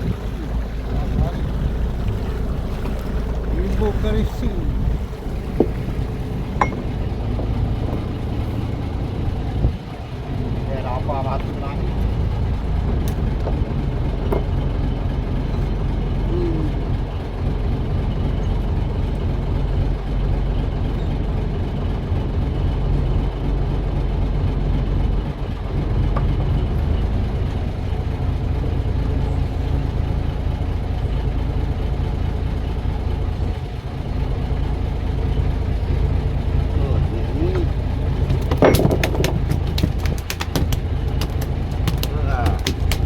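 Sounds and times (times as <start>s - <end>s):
boat engine idling: 0.0s - 43.0s.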